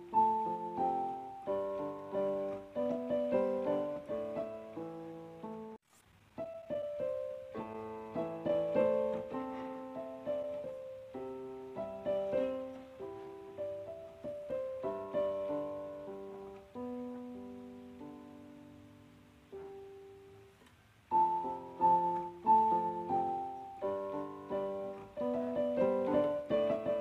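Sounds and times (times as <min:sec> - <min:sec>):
gentle piano melody: 0:00.0 - 0:05.8, 0:06.4 - 0:27.0.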